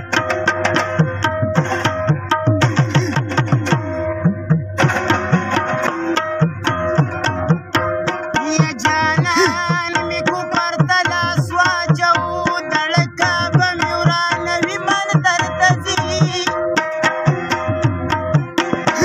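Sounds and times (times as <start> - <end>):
tabla playing a steady beat: 0.0 - 19.0.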